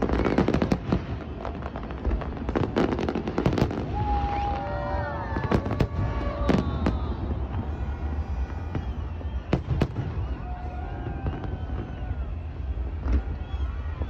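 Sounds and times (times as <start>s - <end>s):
fireworks bangs: 0.0s - 14.0s
whistling fireworks: 0.0s - 14.0s.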